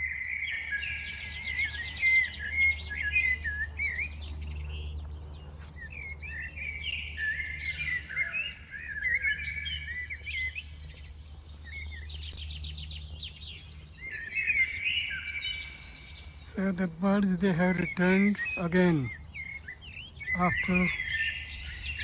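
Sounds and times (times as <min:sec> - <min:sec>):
songbirds singing and chirping: 0:00.0 - 0:22.0.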